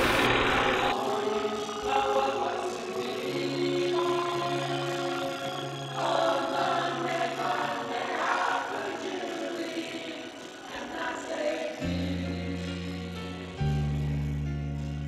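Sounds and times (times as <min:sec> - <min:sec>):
group of people singing: 0:00.1 - 0:13.8.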